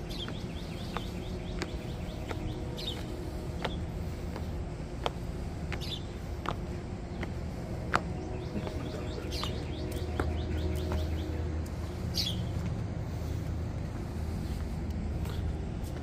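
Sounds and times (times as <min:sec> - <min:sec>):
birds chirping: 0:00.0 - 0:15.8
steady low hum: 0:00.0 - 0:16.0.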